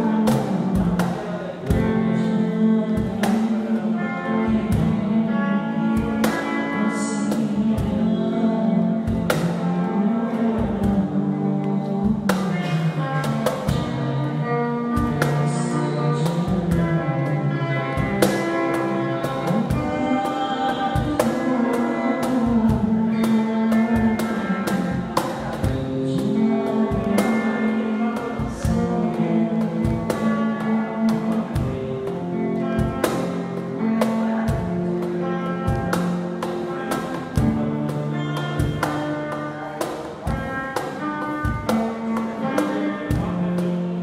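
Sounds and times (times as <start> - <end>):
acoustic guitar: 0.0 - 44.0
cajon beat: 0.0 - 44.0
man singing into a microphone: 0.0 - 44.0.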